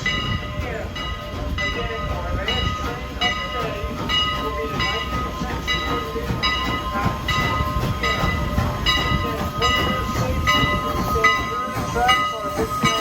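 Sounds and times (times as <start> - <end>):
locomotive bell ringing: 0.0 - 13.0
steam train rumbling: 0.0 - 13.0.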